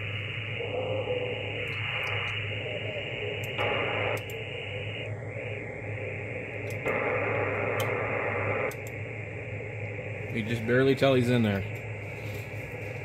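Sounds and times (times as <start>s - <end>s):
radio receiver hiss: 0.0s - 13.0s
weak radio station: 0.0s - 13.0s.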